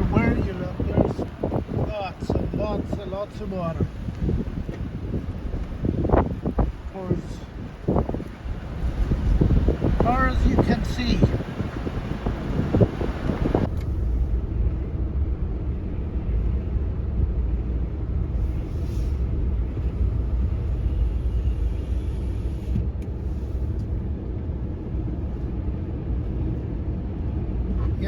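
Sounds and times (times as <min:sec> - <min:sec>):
car road rumble from inside: 0:00.0 - 0:28.0.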